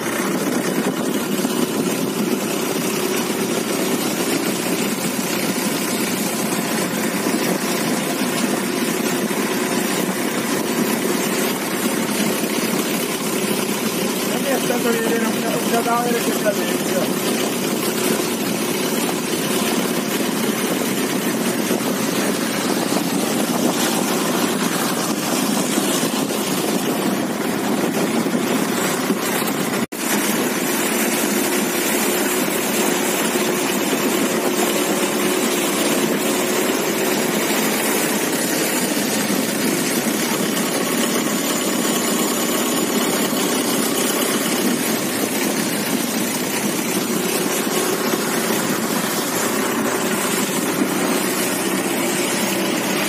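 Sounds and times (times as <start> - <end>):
boat engine running: 0.0 - 53.0
constant rushing noise: 0.0 - 53.0.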